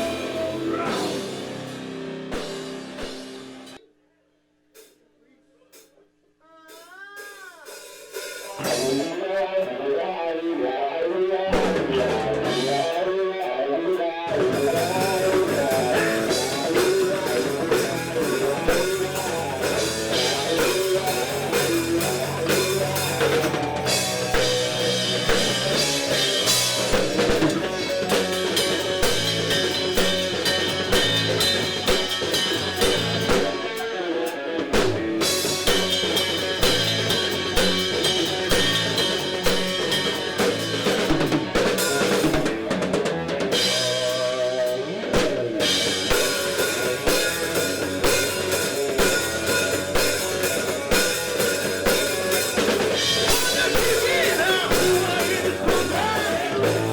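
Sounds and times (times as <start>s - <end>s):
electric guitar line: 0.0s - 3.8s, 8.4s - 56.9s
rock band playing live: 0.0s - 3.8s, 6.8s - 56.9s.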